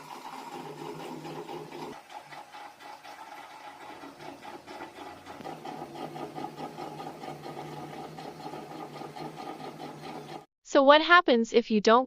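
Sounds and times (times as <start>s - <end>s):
washing machine churning: 0.0s - 10.5s.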